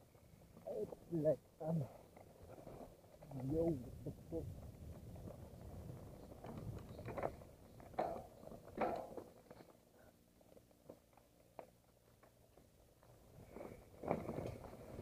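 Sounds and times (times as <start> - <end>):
bike rattling over bumps: 0.0 - 10.1, 10.8 - 15.0
bike rolling on dirt trail: 0.0 - 15.0.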